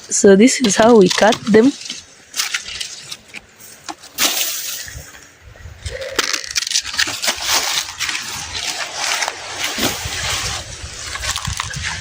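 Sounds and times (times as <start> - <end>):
leaves rustling and snapping: 0.6 - 5.2, 5.9 - 12.0.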